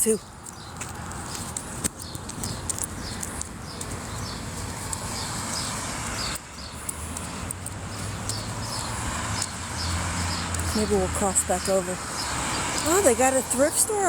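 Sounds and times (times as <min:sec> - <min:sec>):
low rumble of wind or traffic: 0:00.0 - 0:14.0.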